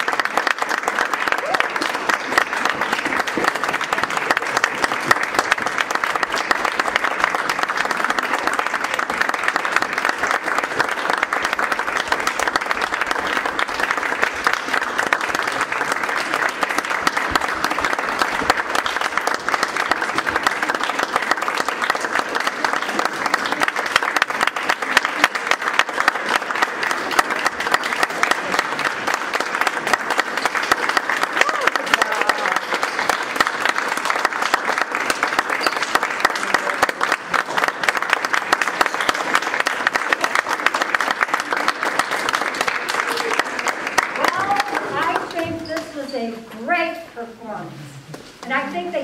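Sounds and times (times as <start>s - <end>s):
audience applauding: 0.0s - 46.1s.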